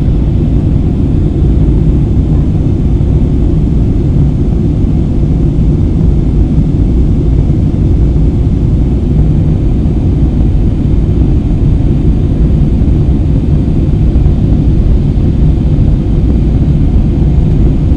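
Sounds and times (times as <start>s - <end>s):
jet engine rumble in cabin: 0.0s - 17.9s.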